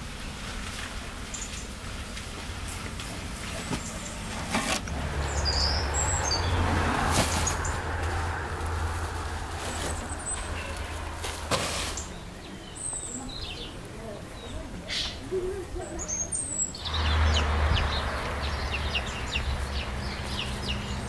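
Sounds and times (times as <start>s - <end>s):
birds chirping: 0.0s - 21.0s
low engine rumble: 0.0s - 21.0s.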